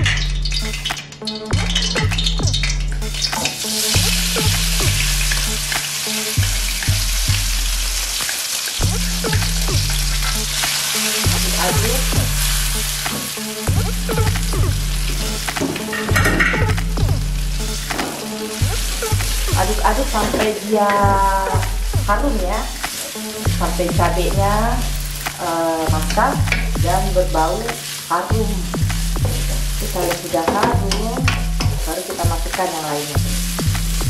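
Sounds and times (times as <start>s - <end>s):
paste sizzling in hot oil: 0.0s - 34.0s.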